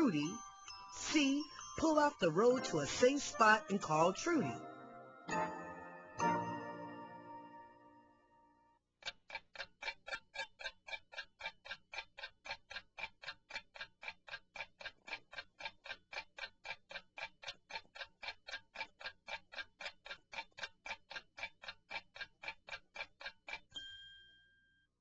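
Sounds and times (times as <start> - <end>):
clock ticking: 0.0 - 7.6, 9.0 - 23.8.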